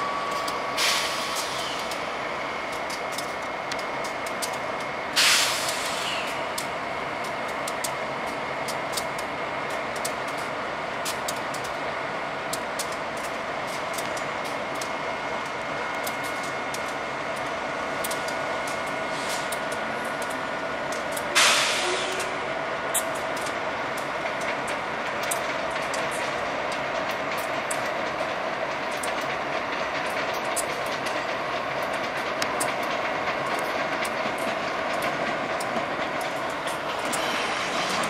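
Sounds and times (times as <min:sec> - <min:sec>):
train hum: 0:00.0 - 0:38.0.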